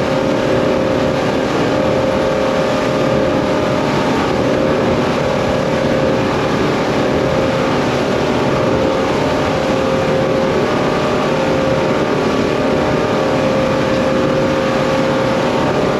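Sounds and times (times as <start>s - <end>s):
outboard motors running: 0.0s - 15.9s
water rushing: 0.0s - 15.9s.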